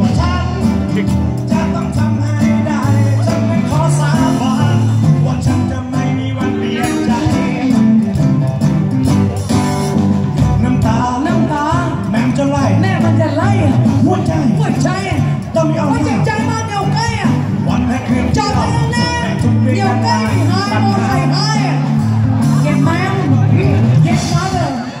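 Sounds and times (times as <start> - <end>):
drum kit: 0.0 - 25.0
guitars: 0.0 - 25.0
live band playing: 0.0 - 25.0.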